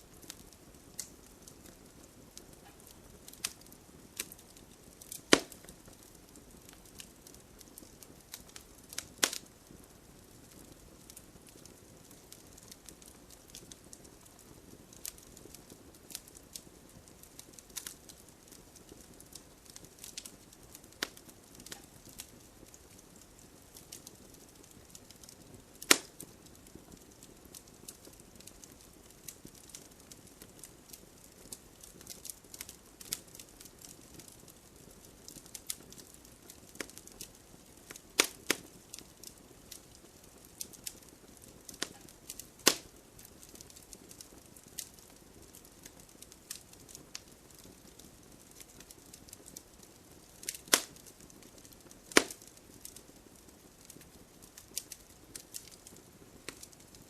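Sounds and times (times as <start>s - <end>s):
fireplace fire crackling and popping: 0.0s - 57.0s.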